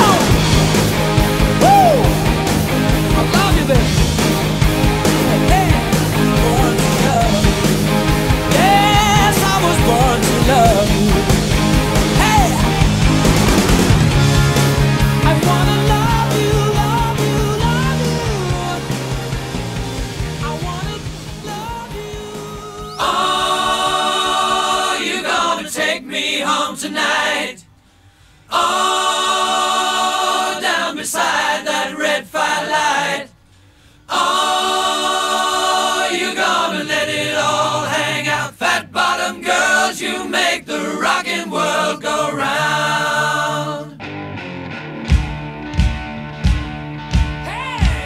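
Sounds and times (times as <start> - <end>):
choir singing held chords: 0.0 - 44.2.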